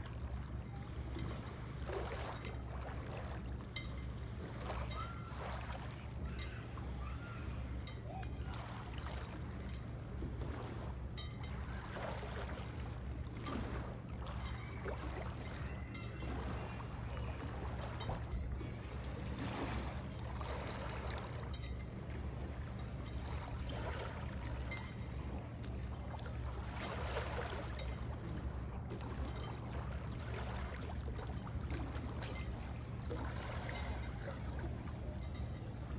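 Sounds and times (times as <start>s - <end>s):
low steady hum: 0.0s - 35.9s
waves lapping against stone shore: 0.0s - 35.9s.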